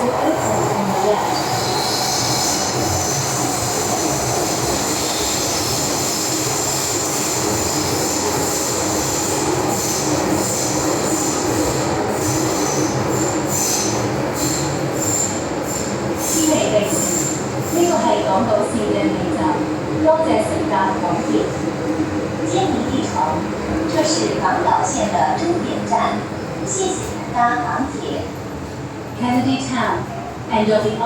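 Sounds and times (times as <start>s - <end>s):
metro wheels rumbling on rail: 0.0s - 31.0s.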